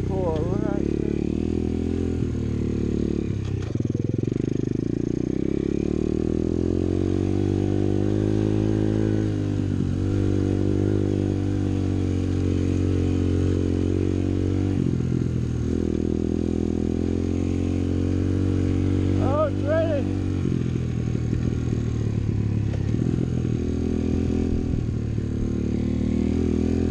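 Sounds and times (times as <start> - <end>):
small motorbike engine running: 0.0 - 26.9.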